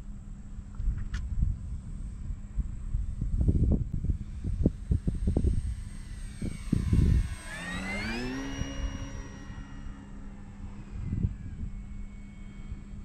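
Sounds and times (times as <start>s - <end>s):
wind buffeting microphone: 0.7s - 12.1s
model plane motor whining: 1.7s - 13.0s.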